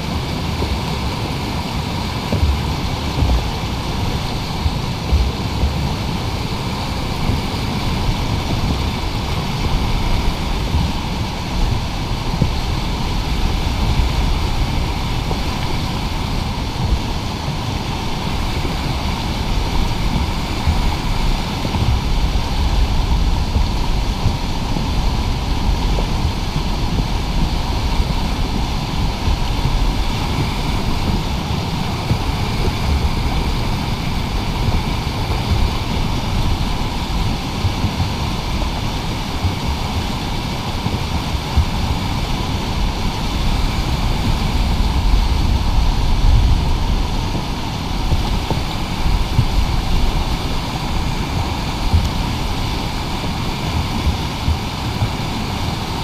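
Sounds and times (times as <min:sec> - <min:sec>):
river rapids rushing: 0:00.0 - 0:56.0
wind buffeting microphone: 0:00.0 - 0:56.0.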